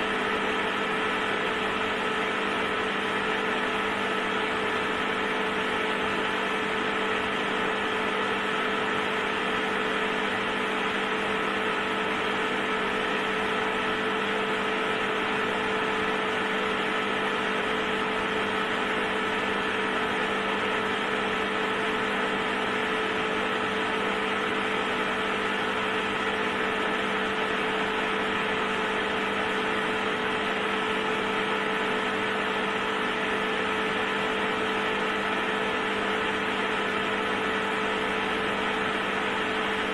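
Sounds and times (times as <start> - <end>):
electric heater humming: 0.0 - 39.9.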